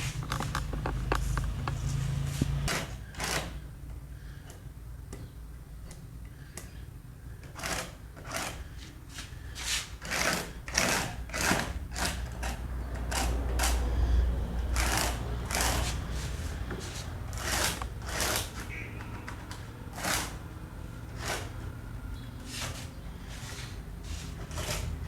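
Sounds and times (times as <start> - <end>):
scraping strokes against wood: 0.0 - 3.6, 7.5 - 25.0.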